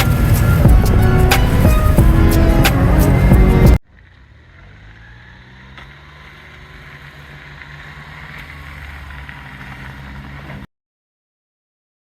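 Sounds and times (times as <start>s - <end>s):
small vehicle engine running: 0.0s - 10.7s.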